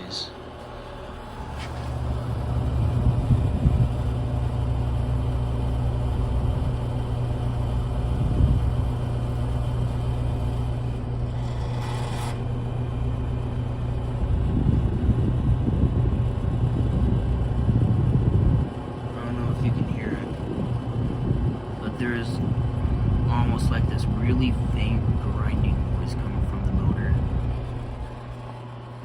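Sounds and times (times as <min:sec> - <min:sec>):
box fan motor humming: 0:00.0 - 0:29.0
faint motor grinding: 0:00.0 - 0:29.0.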